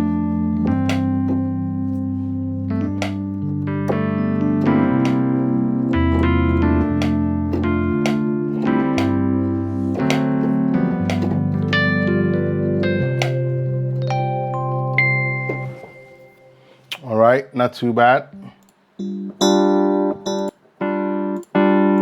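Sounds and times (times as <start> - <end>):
electric piano chords with pad: 0.0 - 16.8, 19.0 - 22.0.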